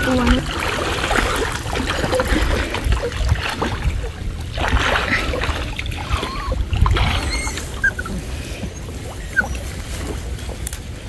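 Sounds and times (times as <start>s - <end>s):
low rumble: 0.0s - 11.0s
water sloshing around wading person: 0.0s - 11.0s.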